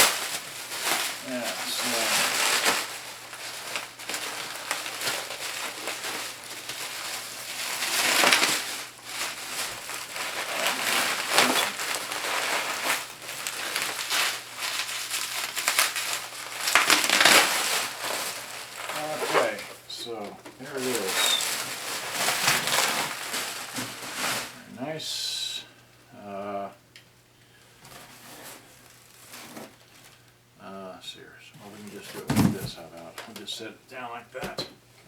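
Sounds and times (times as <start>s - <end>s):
plastic wrap crinkling: 0.0s - 24.7s, 27.8s - 30.3s, 31.6s - 34.6s.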